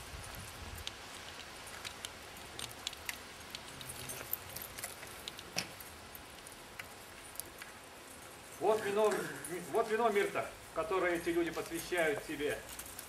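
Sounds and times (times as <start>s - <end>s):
metallic clinks and jingles: 1.6s - 13.0s.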